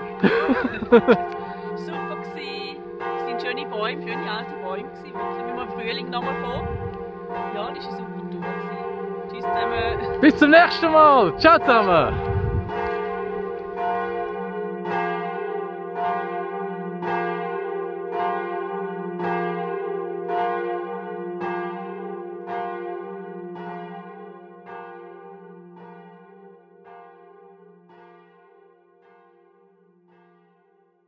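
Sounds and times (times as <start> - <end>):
church bell ringing: 0.0 - 30.8.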